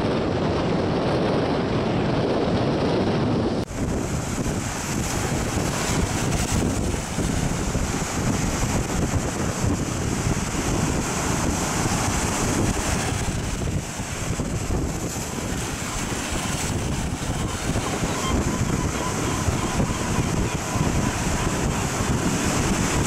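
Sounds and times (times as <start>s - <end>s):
wind buffeting microphone: 0.0s - 23.0s
surf breaking: 3.7s - 23.0s.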